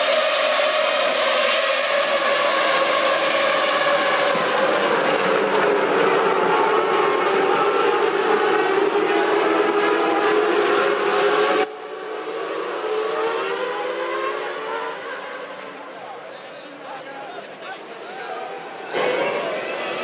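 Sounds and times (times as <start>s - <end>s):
racing car engines at high revs: 0.0s - 16.3s, 18.6s - 20.0s.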